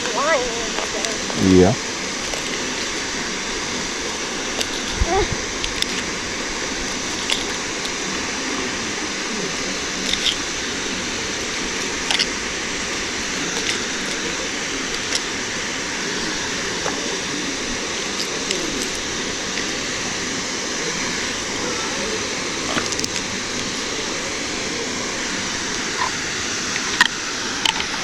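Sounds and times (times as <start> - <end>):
rushing outdoor noise: 0.0 - 28.0.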